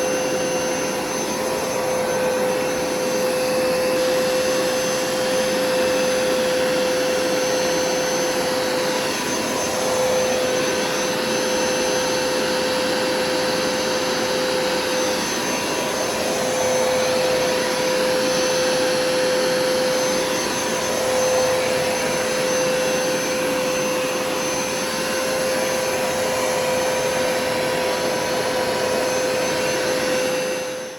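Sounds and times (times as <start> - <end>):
carpet cleaner running: 0.0 - 30.9.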